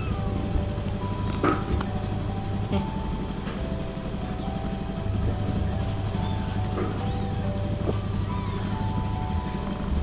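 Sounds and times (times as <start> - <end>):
low mechanical hum: 0.0 - 10.0
simple melody of held notes: 0.0 - 10.0.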